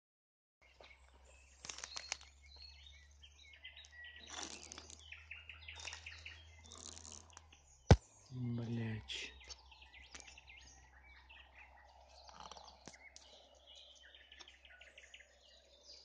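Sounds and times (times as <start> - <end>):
nightingale singing: 0.6 - 16.0.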